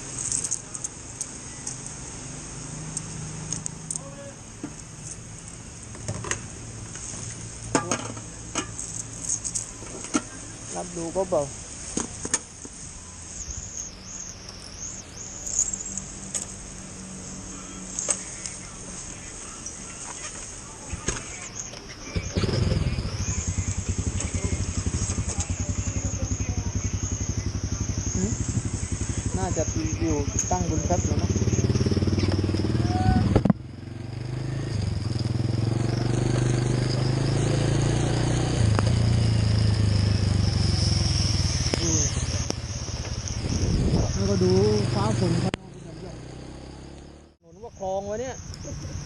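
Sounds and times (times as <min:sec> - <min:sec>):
insects chorus: 0:00.0 - 0:49.0
motorcycle engine running: 0:00.0 - 0:49.0.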